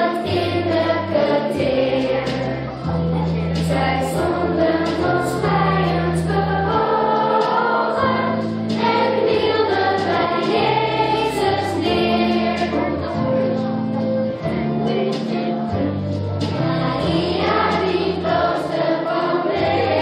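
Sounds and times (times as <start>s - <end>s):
children's choir singing: 0.0s - 20.0s
instrumental backing music: 0.0s - 20.0s.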